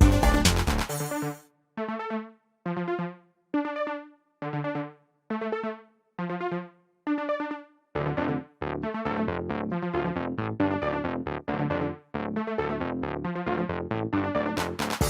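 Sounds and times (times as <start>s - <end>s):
electronic music with synthesizer chords: 0.0s - 15.0s.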